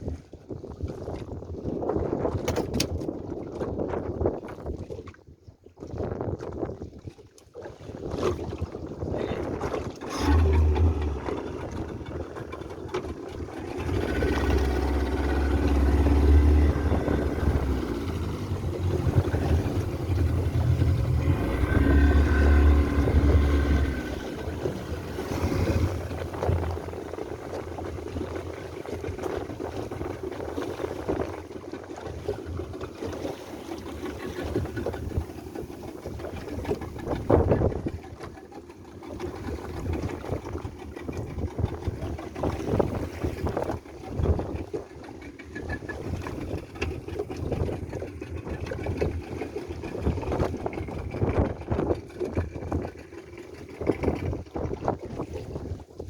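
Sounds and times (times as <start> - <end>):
wind buffeting microphone: 0.0 - 56.0
motorboat engine running: 5.8 - 56.0.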